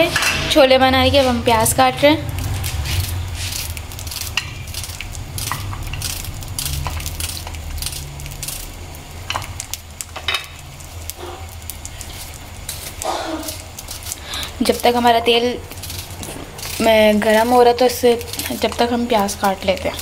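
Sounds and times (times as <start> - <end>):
gas burner rumble: 0.0 - 20.0
onion skin crackling: 0.9 - 20.0.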